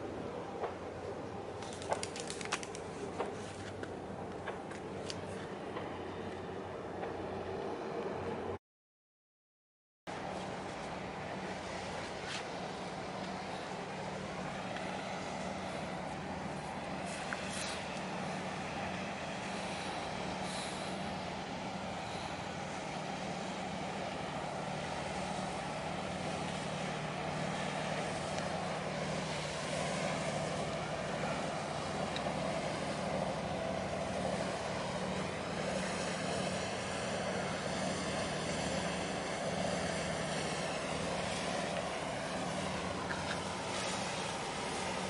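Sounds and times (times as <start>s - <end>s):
constant hum: 0.0s - 8.6s, 10.1s - 45.0s
ship engine drone: 0.0s - 8.6s, 10.1s - 45.0s.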